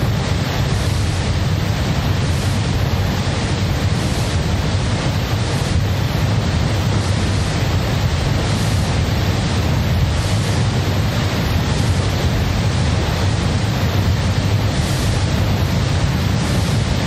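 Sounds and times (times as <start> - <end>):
rushing noise with low rumble: 0.0 - 17.0.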